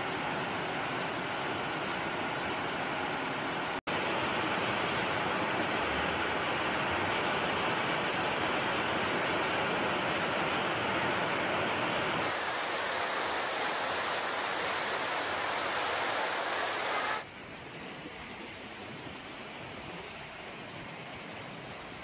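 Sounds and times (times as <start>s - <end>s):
floodwater and rain rushing: 0.0s - 22.0s.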